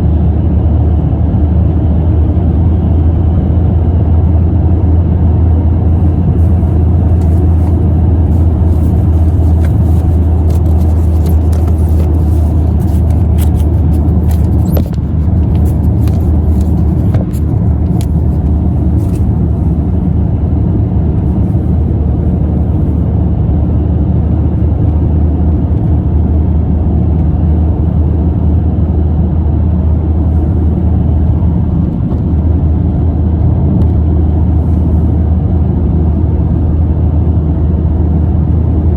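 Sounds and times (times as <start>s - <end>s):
road and engine drone in car: 0.0s - 38.9s.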